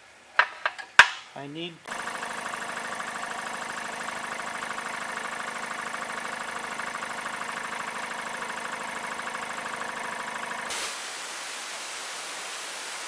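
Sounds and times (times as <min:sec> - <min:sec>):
air compressor pulsing: 0:01.9 - 0:13.0.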